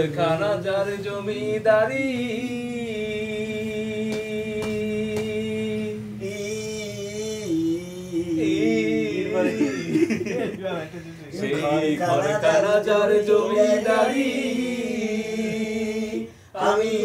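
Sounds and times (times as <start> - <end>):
man singing unaccompanied: 0.0 - 10.2, 11.4 - 17.0.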